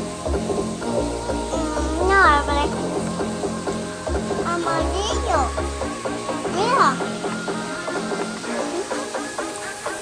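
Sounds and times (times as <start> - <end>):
upbeat plucked music: 0.0 - 10.0.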